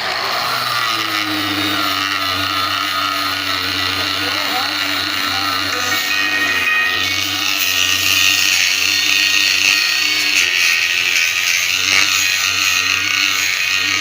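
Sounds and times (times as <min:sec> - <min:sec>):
cutting tool hissing on metal: 0:00.0 - 0:14.0
metal lathe humming: 0:00.0 - 0:14.0.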